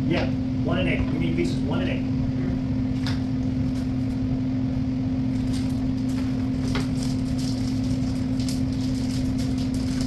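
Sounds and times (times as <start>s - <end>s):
machine hum over low rumble: 0.0s - 10.0s.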